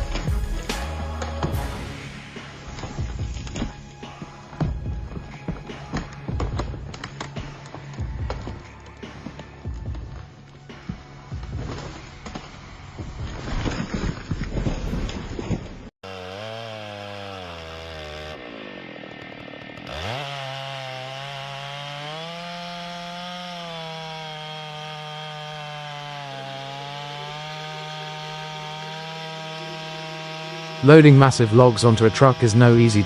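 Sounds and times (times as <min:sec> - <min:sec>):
saw engine revving: 0:00.0 - 0:09.6, 0:16.0 - 0:33.0.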